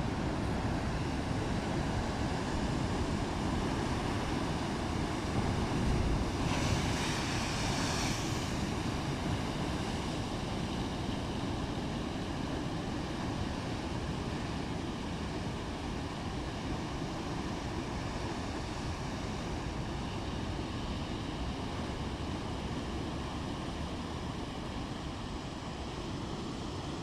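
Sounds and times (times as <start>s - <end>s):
surging waves: 0.0s - 27.0s.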